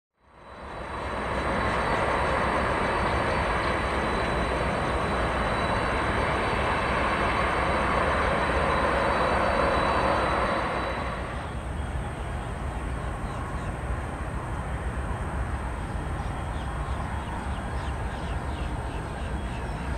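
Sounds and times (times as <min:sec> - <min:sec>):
jet engine roar with whine: 0:00.2 - 0:19.9.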